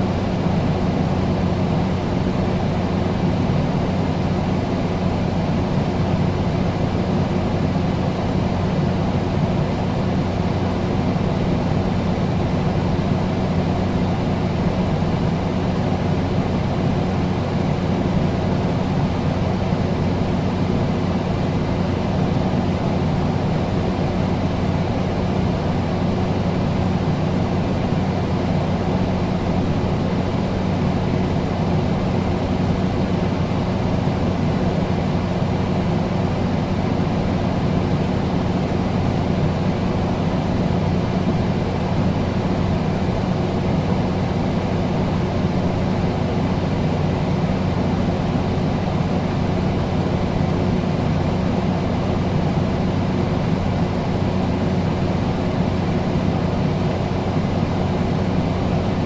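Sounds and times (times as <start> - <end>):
air conditioner running: 0.0 - 59.0.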